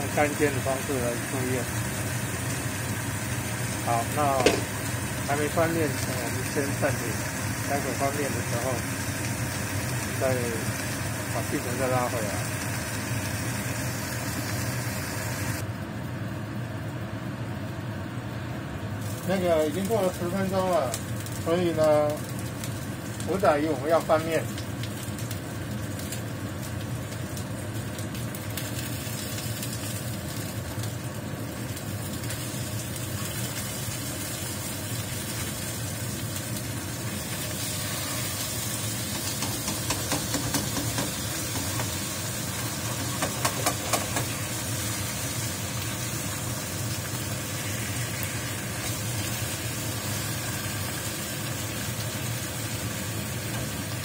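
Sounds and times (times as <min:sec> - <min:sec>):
fish sizzling in a frying pan: 0:00.0 - 0:15.6, 0:19.0 - 0:54.0.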